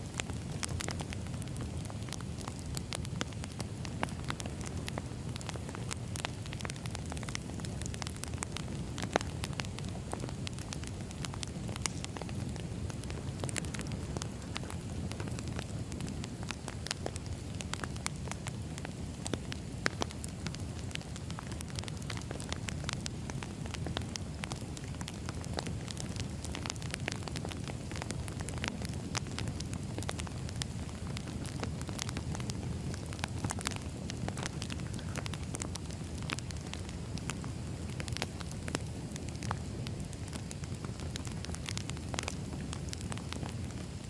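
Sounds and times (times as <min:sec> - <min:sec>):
firewood crackling and popping: 0:00.0 - 0:44.0
low rumble of flames: 0:00.0 - 0:44.0.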